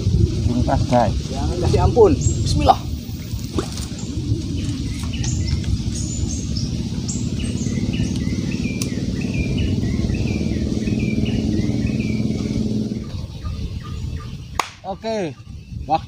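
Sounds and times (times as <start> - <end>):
engine humming: 0.0 - 16.0
bird chirping: 0.9 - 16.0.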